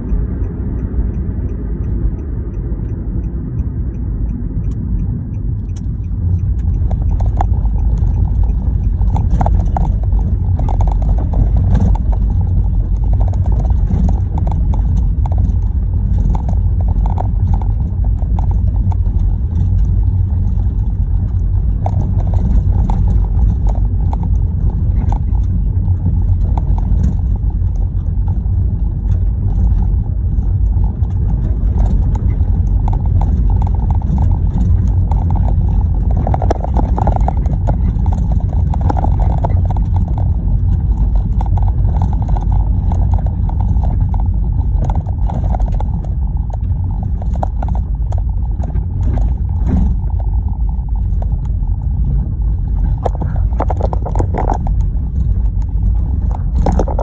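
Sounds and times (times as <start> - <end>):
car tyres on gravel rumbling: 5.5 - 57.0
small clicks and rattles: 5.6 - 57.0.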